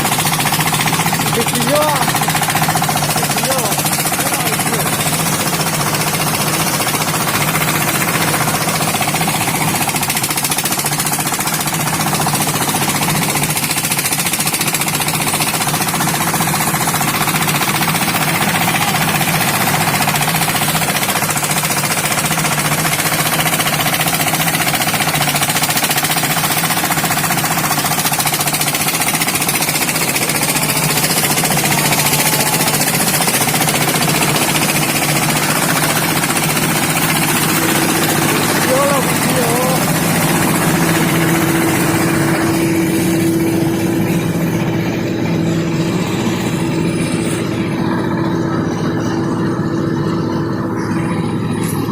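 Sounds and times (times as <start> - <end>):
threshing machine running: 0.0 - 51.9.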